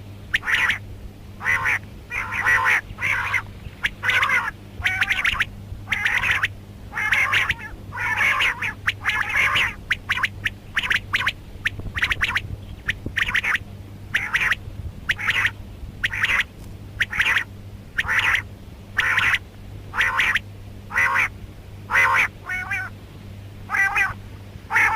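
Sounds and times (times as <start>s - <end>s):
low hum: 0.0s - 24.9s
quail calling: 0.3s - 0.8s, 1.4s - 23.0s, 23.7s - 24.9s.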